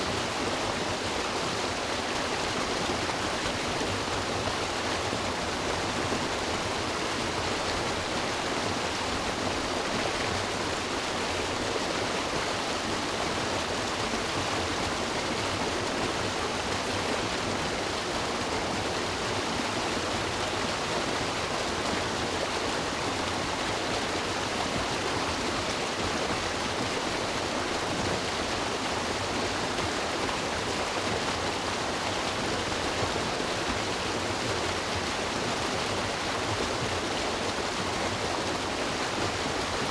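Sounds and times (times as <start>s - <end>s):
river water rushing over rocks: 0.1s - 39.9s.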